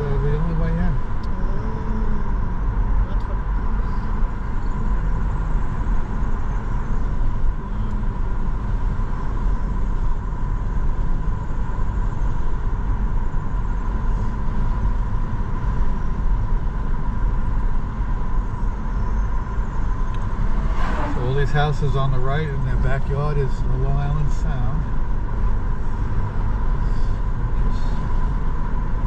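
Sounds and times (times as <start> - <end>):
car road rumble: 0.0 - 29.0.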